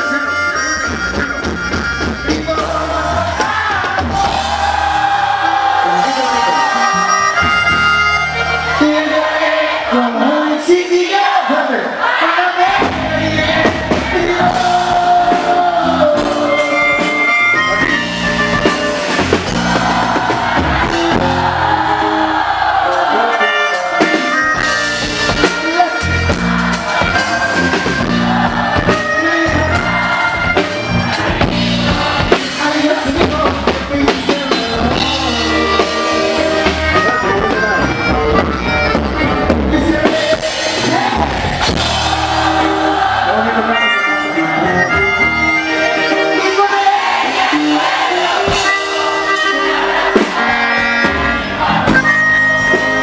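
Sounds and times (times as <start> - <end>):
drums: 0.0 - 11.4, 12.0 - 44.0, 44.7 - 53.0
band playing live: 0.0 - 53.0.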